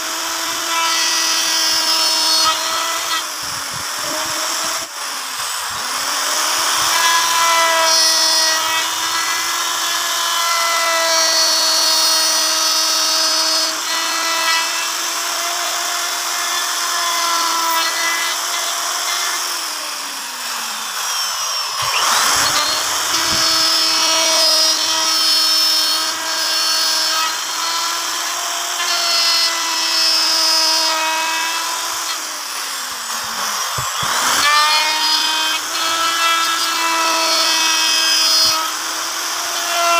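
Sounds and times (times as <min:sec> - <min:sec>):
router motor whine: 0:00.0 - 0:39.9
wood being cut: 0:00.0 - 0:39.9.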